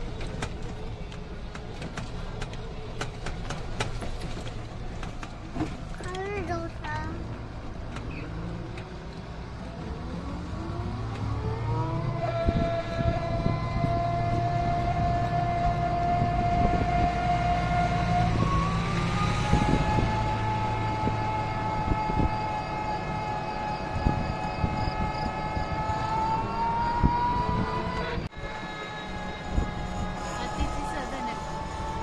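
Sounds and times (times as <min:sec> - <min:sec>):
road rumble: 0:00.0 - 0:32.0
vehicle motor whine: 0:00.0 - 0:32.0.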